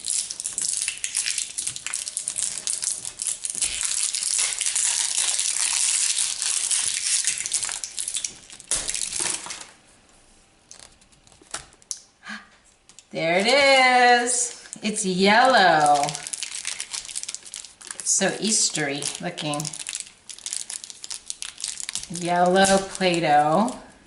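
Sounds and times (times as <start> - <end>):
plastic wrapping crinkling: 0.0 - 9.8, 12.8 - 24.0.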